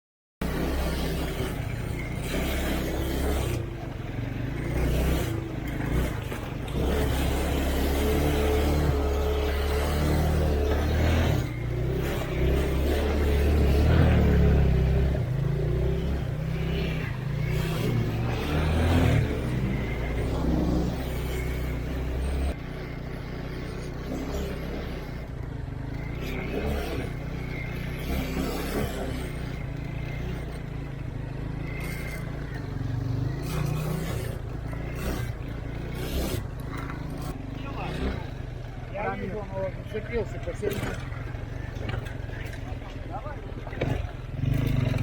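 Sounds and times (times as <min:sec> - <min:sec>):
off-road vehicle engine running: 0:00.4 - 0:45.0.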